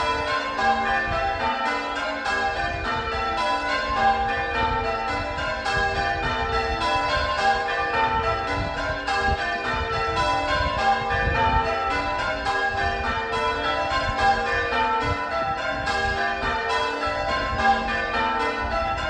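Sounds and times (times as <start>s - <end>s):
church bells change ringing: 0.0s - 19.0s.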